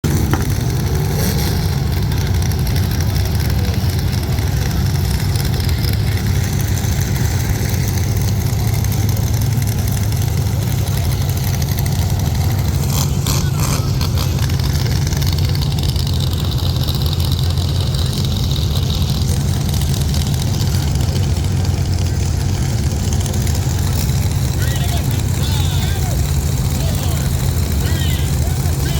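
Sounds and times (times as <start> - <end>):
car engines rumbling: 0.0 - 28.9.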